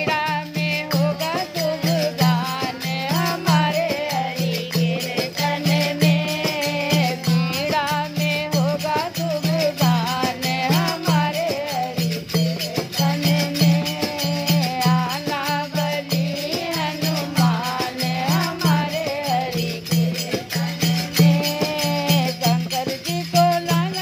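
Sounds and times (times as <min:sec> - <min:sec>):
dholak drum beat: 0:00.0 - 0:24.0
rattling percussion: 0:00.0 - 0:24.0
woman singing: 0:00.0 - 0:24.0.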